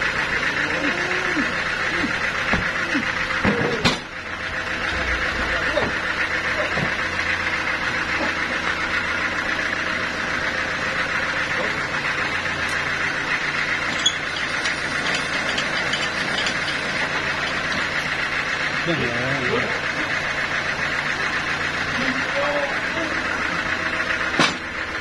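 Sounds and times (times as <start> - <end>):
stationary engine running: 0.0 - 25.0.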